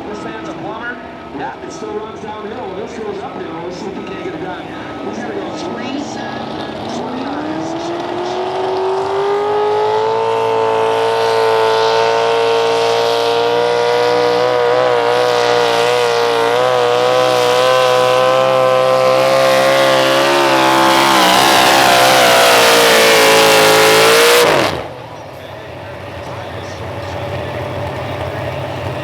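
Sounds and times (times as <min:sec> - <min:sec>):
engine at full throttle: 0:00.0 - 0:29.0.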